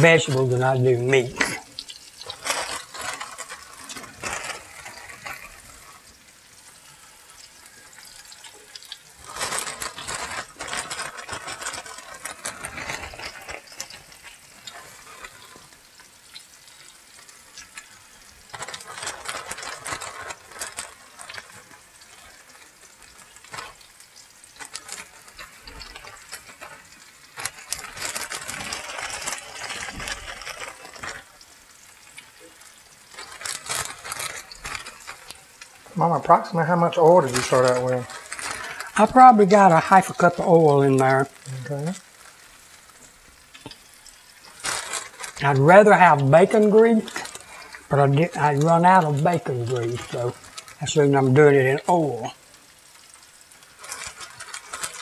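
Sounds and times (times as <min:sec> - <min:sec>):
oil crackling and sizzling: 0:00.0 - 0:55.0
plastic bag crinkling: 0:00.0 - 0:55.0.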